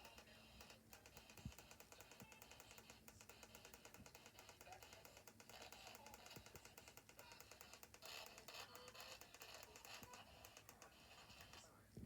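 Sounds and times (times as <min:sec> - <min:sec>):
faint rapid clicks: 0:00.0 - 0:11.7.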